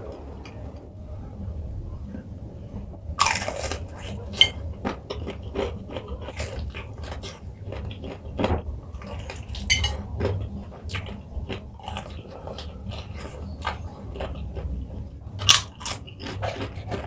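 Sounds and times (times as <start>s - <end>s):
crunchy chewing: 3.2s - 17.0s.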